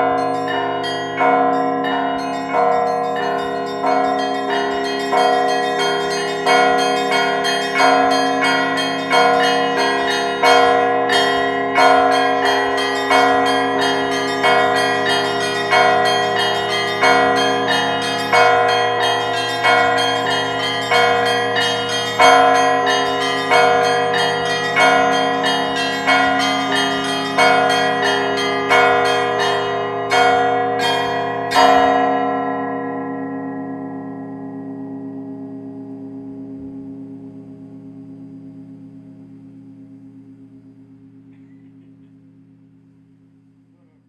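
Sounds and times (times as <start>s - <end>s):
church bells ringing: 0.0s - 42.8s.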